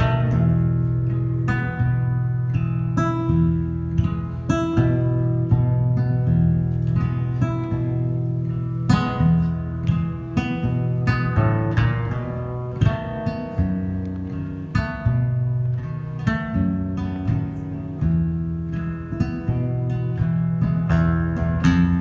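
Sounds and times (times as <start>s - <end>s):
acoustic guitar playing: 0.0s - 22.0s
sustained bass: 0.0s - 22.0s.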